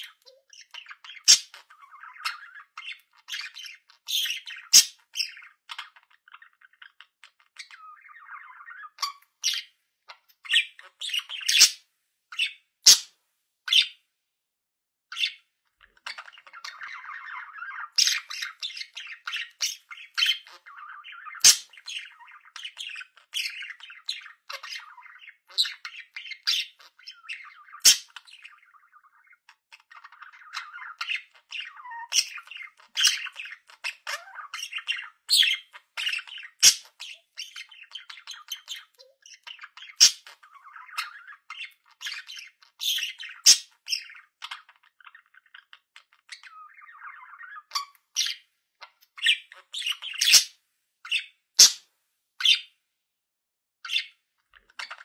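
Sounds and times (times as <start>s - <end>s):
budgerigars warbling and chattering: 0.0s - 14.0s, 15.1s - 52.7s, 53.8s - 55.0s
sharp chirps and squawks: 0.0s - 14.0s, 15.1s - 51.8s, 52.4s - 52.7s, 53.9s - 55.0s.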